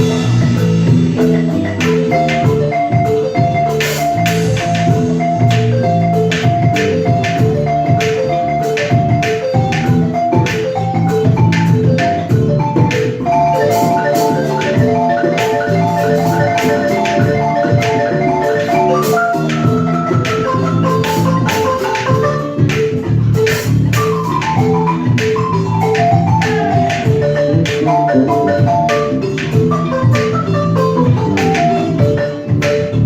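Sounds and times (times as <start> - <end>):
wooden xylophone melodic runs: 0.0 - 33.0.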